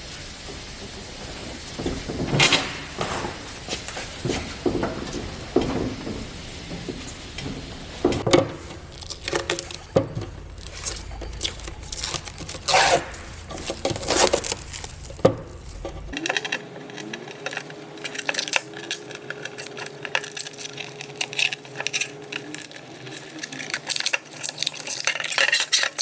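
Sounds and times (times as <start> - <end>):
scraping and rustling: 0.2 - 26.0
workshop handling knocks and clicks: 0.5 - 26.0.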